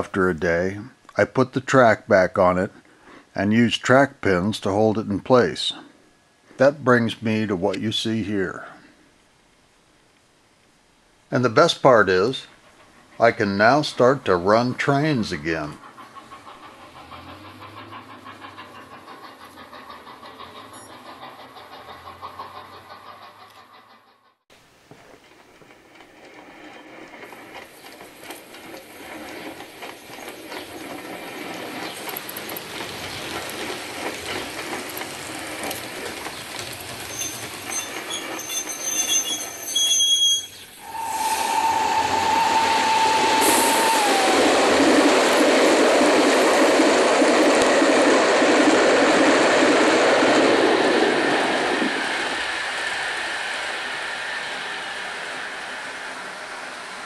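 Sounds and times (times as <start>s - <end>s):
model trains running on track: 0.0s - 5.9s, 6.6s - 8.6s, 11.3s - 24.4s, 25.2s - 57.0s.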